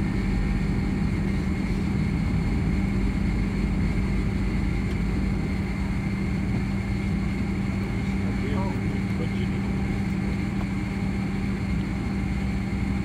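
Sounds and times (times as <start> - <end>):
jet engines droning: 0.0 - 13.0.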